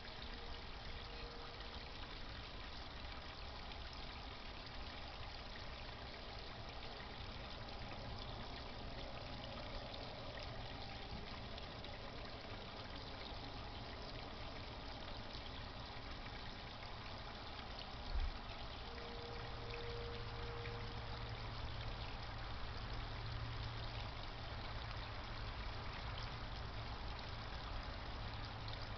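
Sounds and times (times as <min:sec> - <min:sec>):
faint steady tone: 0:00.0 - 0:28.9
low pump hum: 0:00.0 - 0:28.9
pond pump water trickling: 0:00.0 - 0:28.9.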